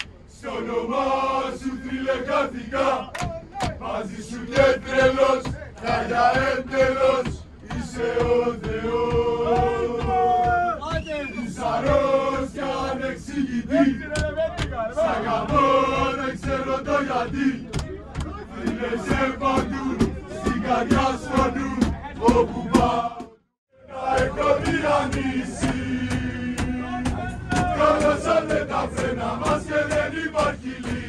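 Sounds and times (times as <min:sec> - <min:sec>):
men chanting in unison: 0:00.3 - 0:31.0.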